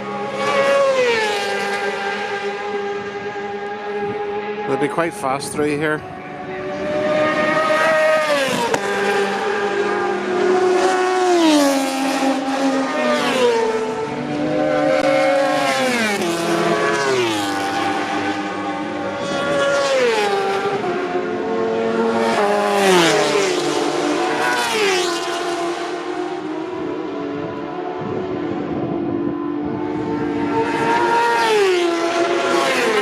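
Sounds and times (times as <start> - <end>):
race motorcycles passing at speed: 0.0 - 33.0.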